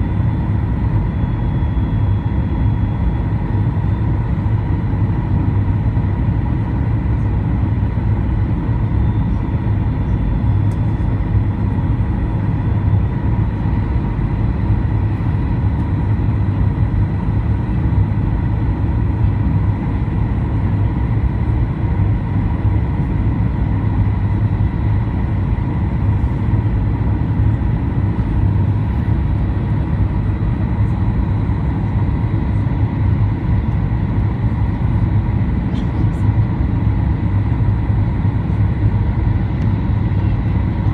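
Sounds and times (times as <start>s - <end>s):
airplane cabin engine drone: 0.0s - 40.9s
faint steady whine: 0.0s - 40.9s.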